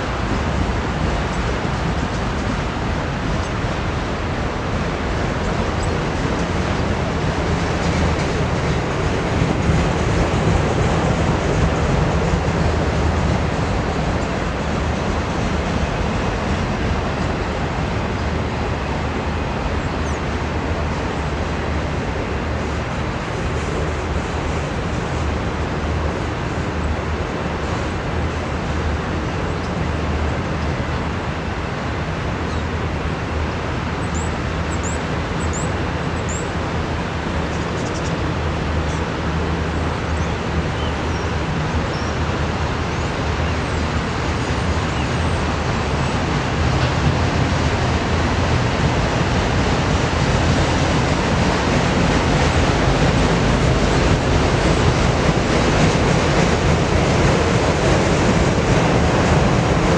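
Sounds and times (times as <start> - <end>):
steel wheels rolling on rail: 0.0 - 59.9.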